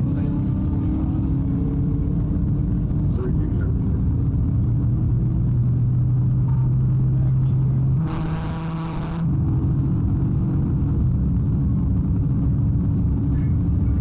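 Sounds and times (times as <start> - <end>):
car engine and road drone: 0.0 - 14.0.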